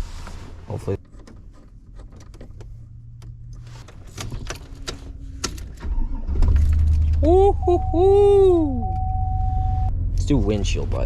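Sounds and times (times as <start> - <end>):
car engine starting and idling: 1.4 - 11.0.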